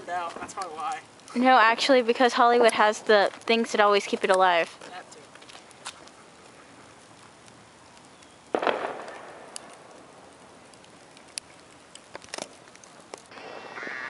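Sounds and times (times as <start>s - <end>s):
fireworks rushing: 0.0s - 6.0s, 6.6s - 14.0s
fireworks crackling and popping: 0.0s - 14.0s.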